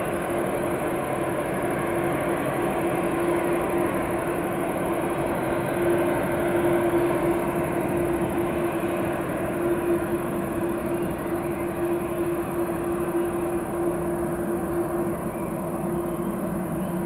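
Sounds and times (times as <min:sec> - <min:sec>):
jet engines rumbling and whining: 0:00.0 - 0:17.0.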